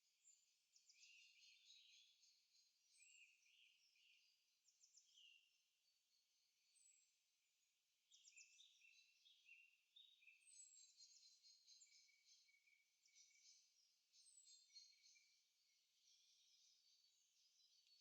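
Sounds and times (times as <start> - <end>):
birds chirping and trilling: 0.2 - 7.0, 8.1 - 18.0.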